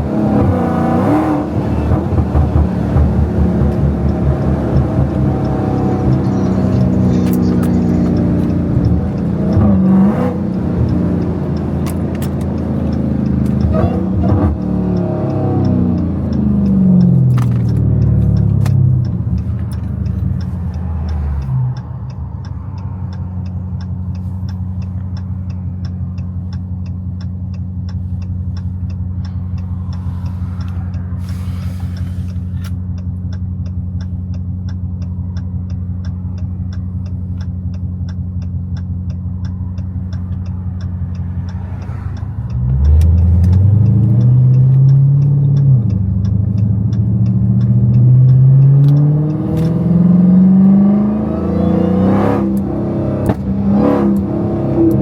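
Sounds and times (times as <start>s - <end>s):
car engine idling and revving: 0.0s - 55.0s
regular ticking: 0.0s - 55.0s.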